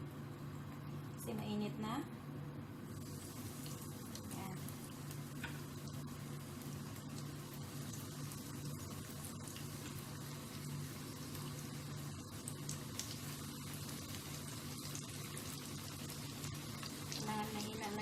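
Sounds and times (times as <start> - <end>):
fish frying in hot oil: 2.8 - 18.0.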